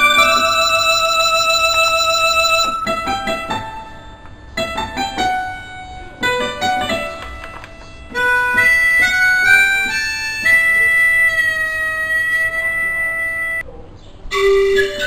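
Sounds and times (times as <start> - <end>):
electronic keyboard notes: 0.0 - 13.7, 14.3 - 15.0.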